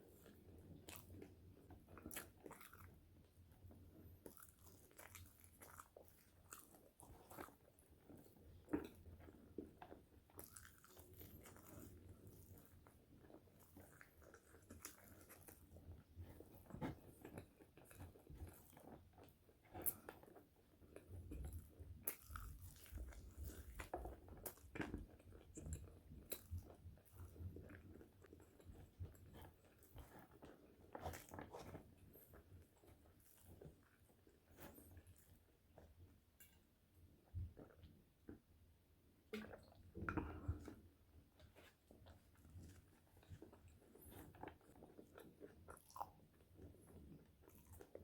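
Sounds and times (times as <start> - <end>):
chewing crisp fries: 0.1 - 36.6, 41.4 - 48.0.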